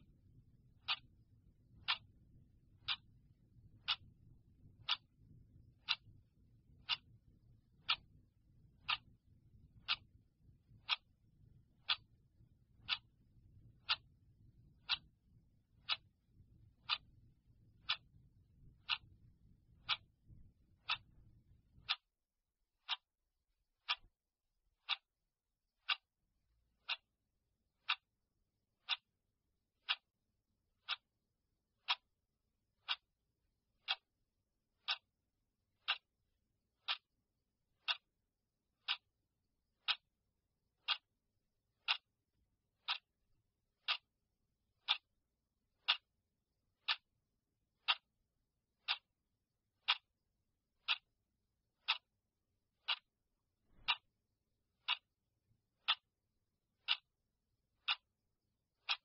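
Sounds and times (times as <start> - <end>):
clock ticking: 0.0 - 38.2, 38.8 - 59.0.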